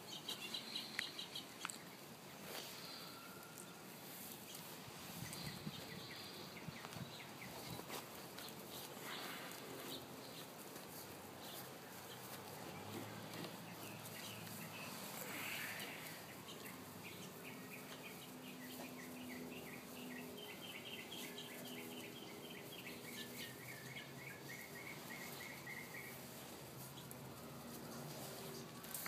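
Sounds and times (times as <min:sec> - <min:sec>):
small bird chirping: 0:00.0 - 0:27.2
faint outdoor background noise: 0:00.0 - 0:29.0.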